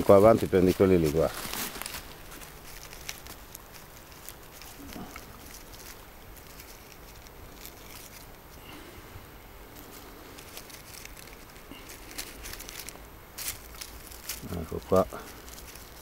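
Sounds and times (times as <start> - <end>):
hand rustling dry leaves: 0.0 - 16.0.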